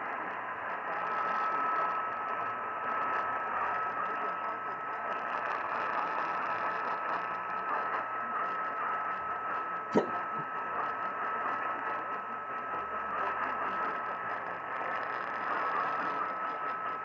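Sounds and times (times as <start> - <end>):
radio hiss: 0.0 - 17.0
sharp static crackle: 0.0 - 17.0.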